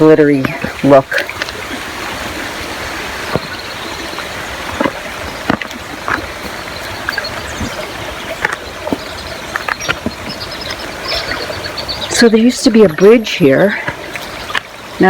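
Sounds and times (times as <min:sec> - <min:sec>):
creek running: 0:00.0 - 0:15.0
footsteps crunching on trail: 0:00.0 - 0:15.0.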